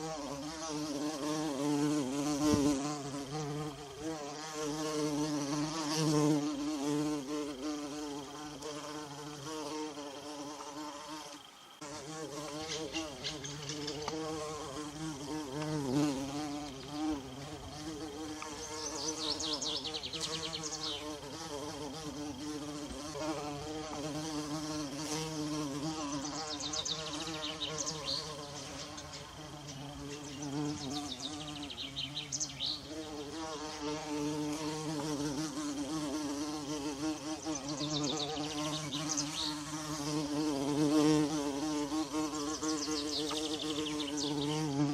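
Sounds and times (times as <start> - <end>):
bumblebee buzzing: 0.0 - 44.9.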